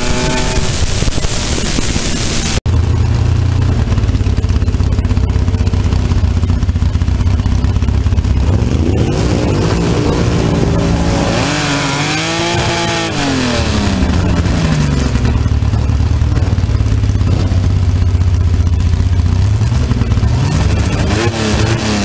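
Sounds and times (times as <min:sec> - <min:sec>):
dragster engine revving and idling: 0:00.0 - 0:22.0.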